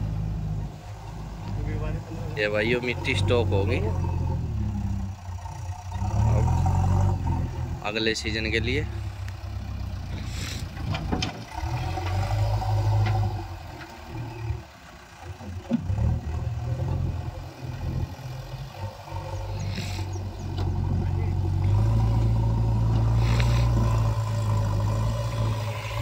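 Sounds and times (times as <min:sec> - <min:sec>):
diesel engines droning: 0:00.0 - 0:26.0.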